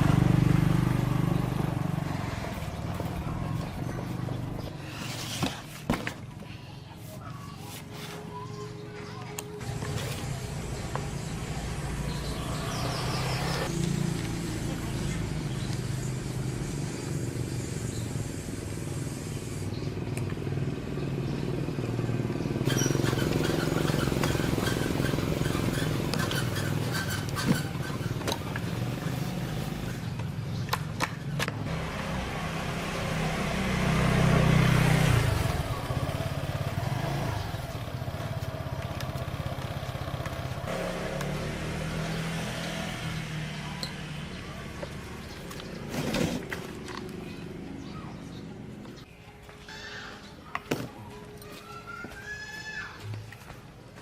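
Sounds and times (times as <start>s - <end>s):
engine running: 0.0s - 5.1s, 9.2s - 49.1s.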